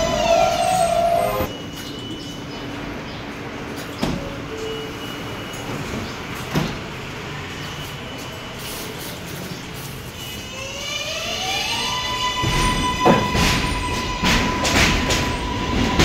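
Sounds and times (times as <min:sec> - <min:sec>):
standing train humming: 0:02.6 - 0:16.0.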